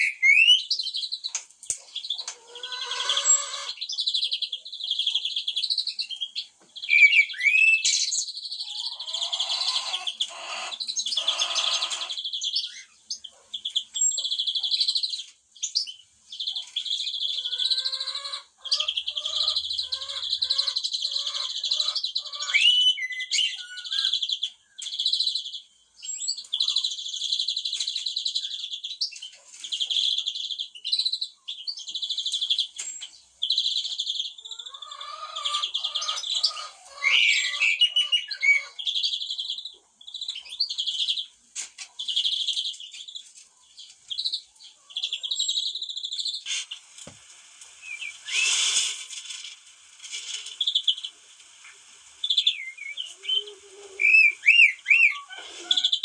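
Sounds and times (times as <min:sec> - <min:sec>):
songbirds singing and chirping: 0:00.0 - 0:48.8, 0:50.2 - 0:56.0.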